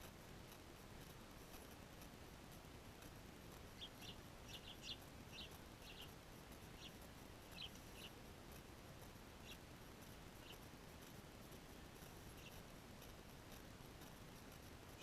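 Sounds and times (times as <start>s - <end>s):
low background hiss: 0.0s - 15.0s
small birds chirping: 0.5s - 15.0s.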